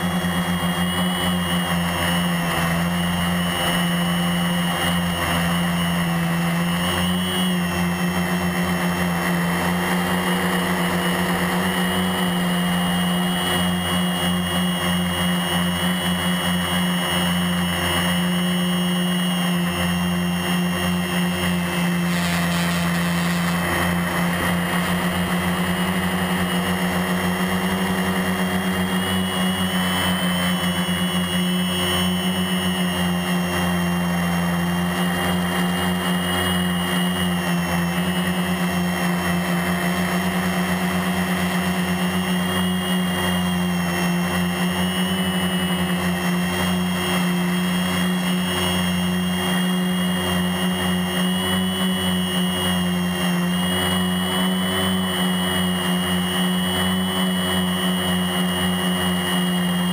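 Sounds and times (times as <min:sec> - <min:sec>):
quadcopter motors humming and whining: 0:00.0 - 0:59.9.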